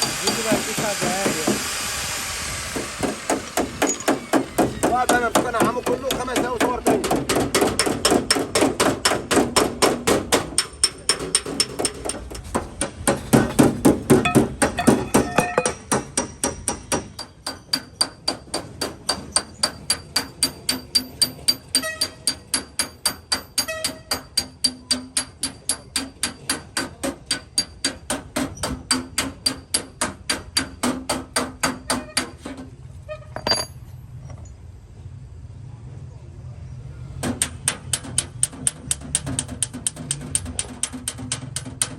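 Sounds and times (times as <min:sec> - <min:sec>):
hammer tapping on steel panel: 0:03.0 - 0:32.4, 0:37.2 - 0:41.9.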